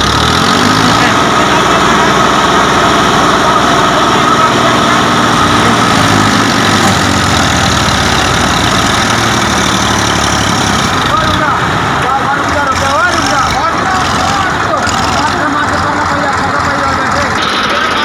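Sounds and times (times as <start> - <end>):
tractor diesel engines under load: 0.0 - 18.0.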